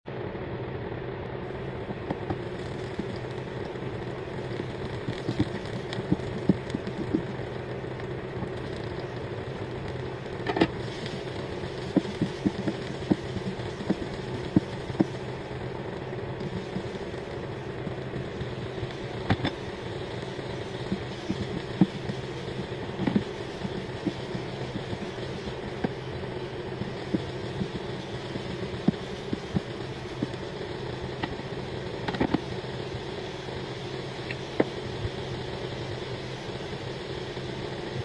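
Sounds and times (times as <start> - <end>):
vegetables frying in hot oil: 1.4 - 38.0.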